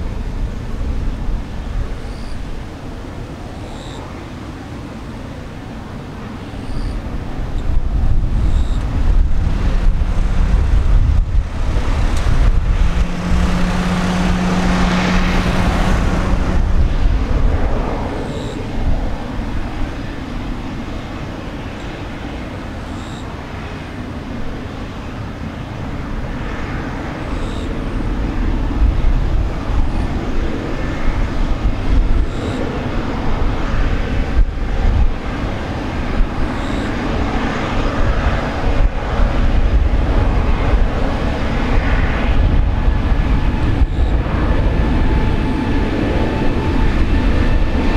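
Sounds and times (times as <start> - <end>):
jet engines droning: 0.0 - 47.9
steady low hum: 0.0 - 47.9.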